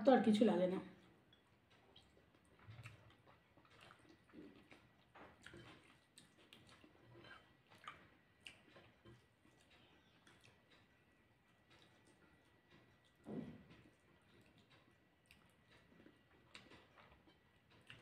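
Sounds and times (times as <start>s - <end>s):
faint chewing: 0.8s - 18.0s
fingers squishing rice on plate: 1.1s - 18.0s.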